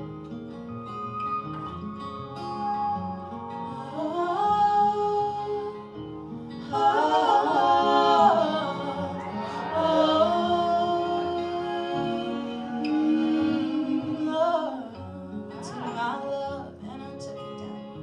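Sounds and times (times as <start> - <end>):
acoustic guitar: 0.0 - 18.0
wordless vocal harmonies: 0.9 - 18.0.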